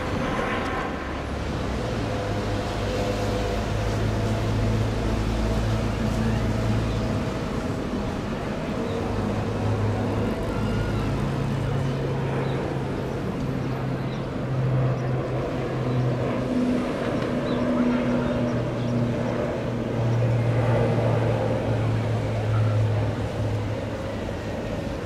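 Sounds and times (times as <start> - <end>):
propeller plane droning hum: 0.0 - 25.0.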